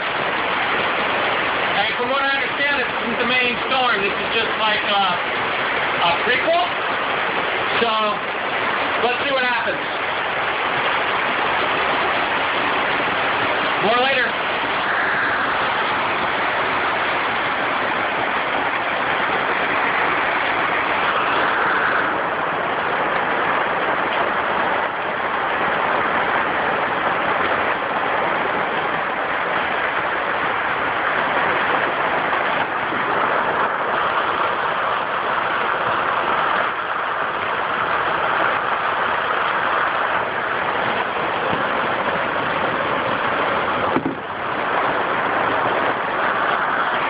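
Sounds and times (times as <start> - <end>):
storm wind and rain: 0.0 - 47.0.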